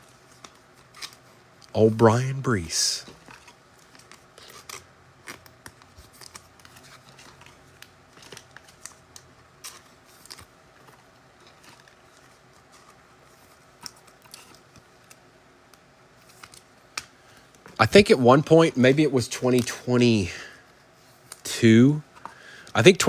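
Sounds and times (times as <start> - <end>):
trading cards clicking and rustling: 0.0 - 20.3.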